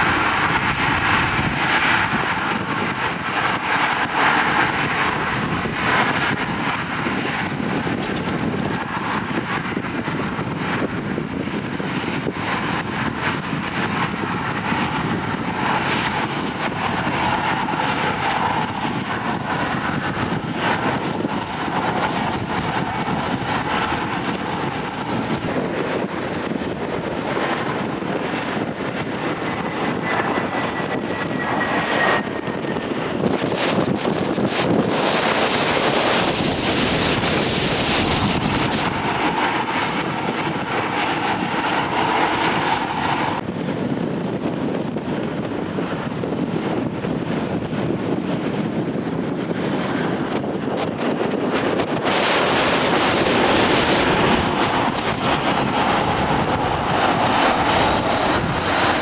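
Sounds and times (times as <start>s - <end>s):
faint jet engine whine: 0.0s - 59.0s
jet engines taxiing: 0.0s - 59.0s
wind on microphone: 0.0s - 59.0s.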